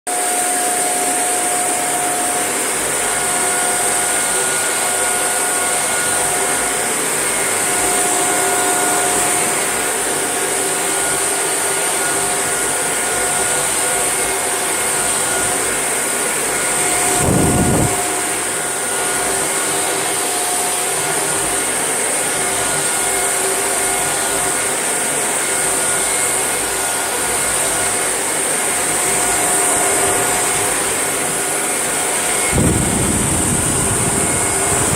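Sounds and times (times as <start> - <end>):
vacuum cleaner running: 0.1 - 34.9.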